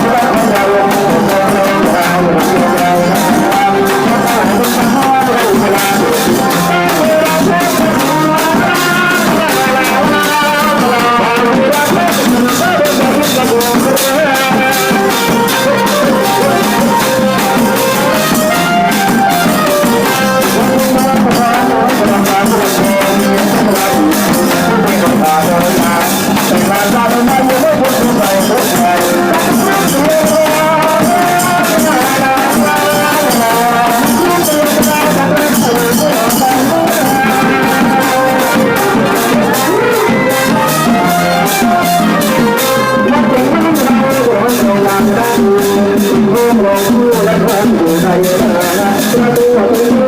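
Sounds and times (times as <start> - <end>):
horns playing melody: 0.0 - 44.6
cymbals and shakers rattling: 0.0 - 50.0
drums: 0.0 - 50.0.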